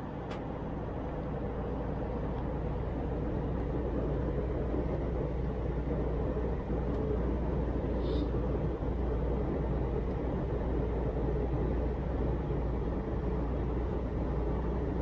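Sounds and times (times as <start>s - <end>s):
airliner cabin engine roar: 0.0s - 15.0s.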